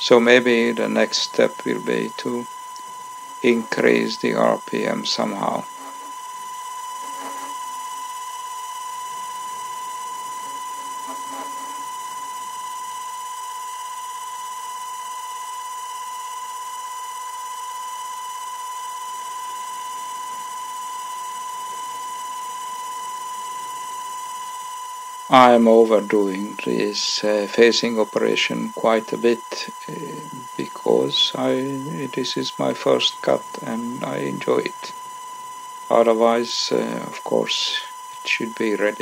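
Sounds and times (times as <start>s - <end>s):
servo motor high-pitched whine: 0.0s - 39.0s.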